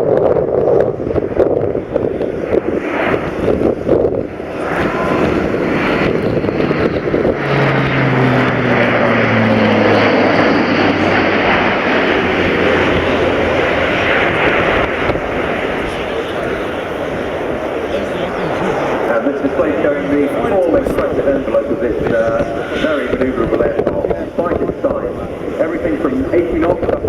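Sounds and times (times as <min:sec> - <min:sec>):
turboprop aircraft propeller roar: 0:00.0 - 0:27.0.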